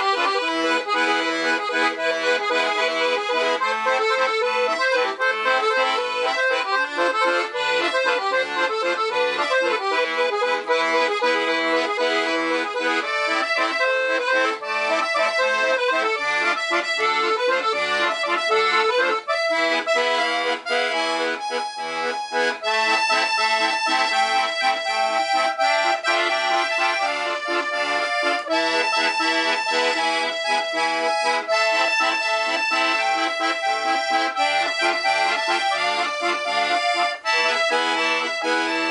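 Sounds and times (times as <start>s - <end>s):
accordion bass and chord notes: 0.0s - 38.9s
accordion melody: 0.0s - 38.9s.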